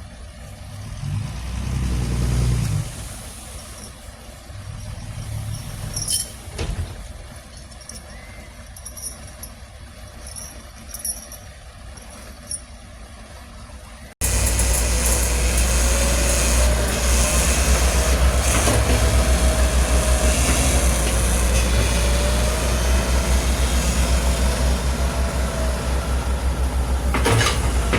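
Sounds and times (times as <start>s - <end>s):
diesel machinery rumbling: 0.0s - 9.2s, 13.1s - 27.9s.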